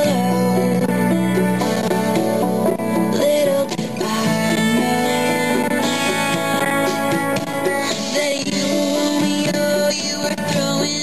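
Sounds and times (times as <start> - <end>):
music with plucked strings: 0.0 - 11.0.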